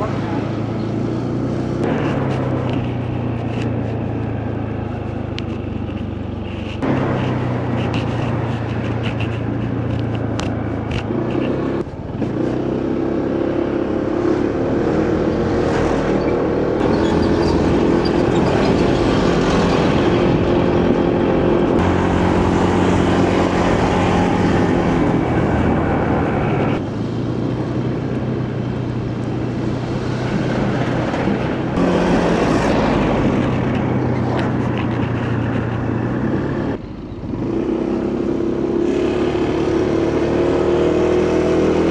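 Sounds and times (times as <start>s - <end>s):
motorcycle engine running: 0.0s - 15.7s, 16.8s - 41.9s
wind and road noise: 0.0s - 41.9s.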